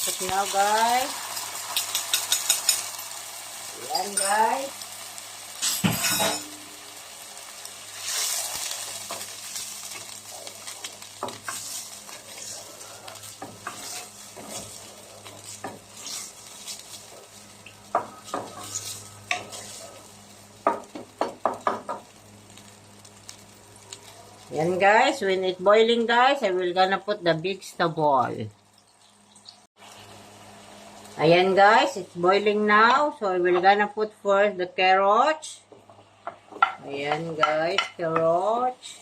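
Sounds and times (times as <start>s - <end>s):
sauce sizzling in a pan: 0.0s - 27.8s, 28.5s - 33.7s.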